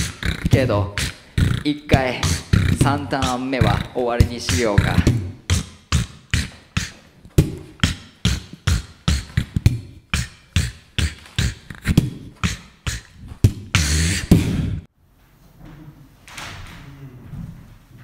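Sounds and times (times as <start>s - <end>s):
beatboxing into a microphone: 0.0s - 14.9s.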